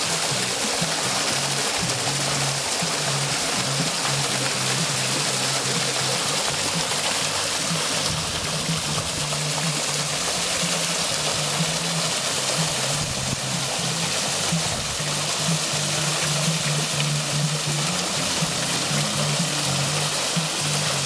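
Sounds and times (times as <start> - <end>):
background music with bass line: 0.0 - 21.0
water running down stone waterfall: 0.0 - 21.0.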